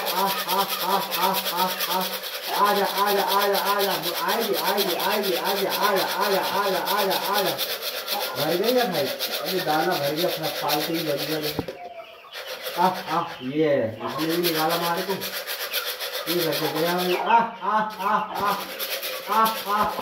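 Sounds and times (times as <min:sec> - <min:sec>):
man calling chicks sing-song: 0:00.0 - 0:20.0.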